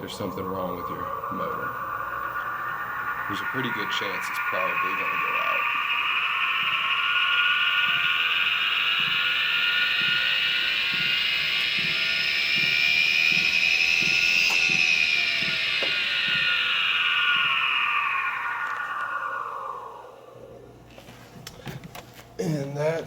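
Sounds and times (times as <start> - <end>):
motor electrical whine: 0.0 - 23.0.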